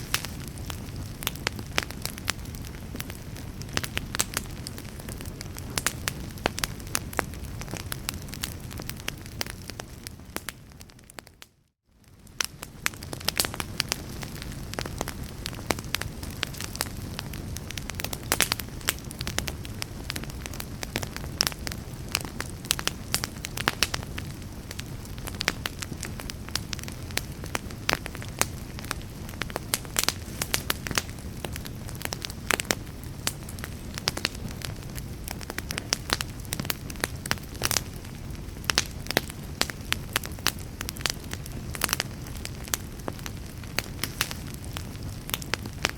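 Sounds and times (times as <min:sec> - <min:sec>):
low rumble of flame: 0:00.0 - 0:45.9
sharp pops from fire: 0:00.0 - 0:45.9
wood fire crackling: 0:00.0 - 0:45.9.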